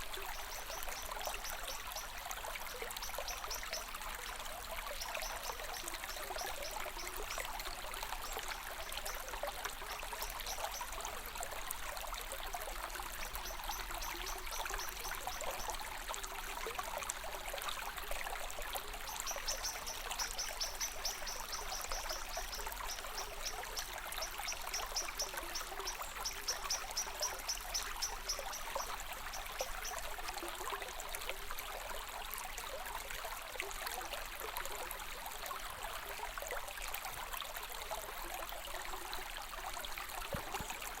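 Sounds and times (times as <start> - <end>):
small stream trickling: 0.0 - 41.0.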